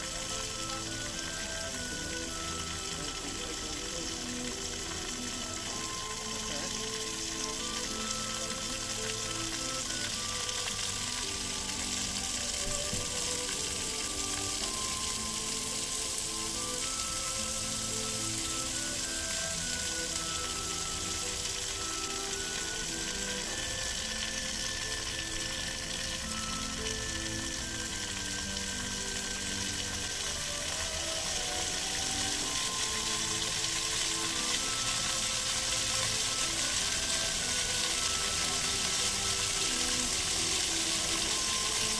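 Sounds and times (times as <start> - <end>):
fountain jets hissing and splashing: 0.0 - 41.9
melodic tune: 0.0 - 41.9.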